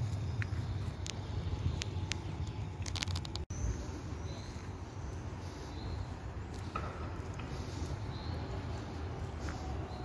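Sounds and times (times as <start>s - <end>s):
city low rumble: 0.0s - 10.0s.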